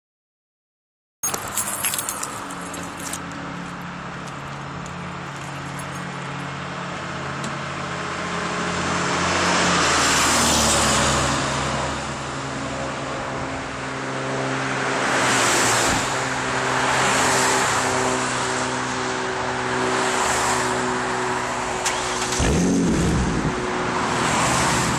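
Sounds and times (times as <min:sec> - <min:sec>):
car engine idling and revving: 0:01.3 - 0:24.9.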